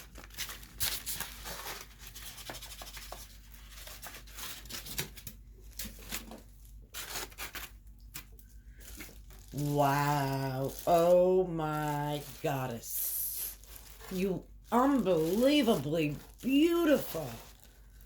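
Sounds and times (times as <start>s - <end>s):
wrapping being torn: 0.0s - 18.0s.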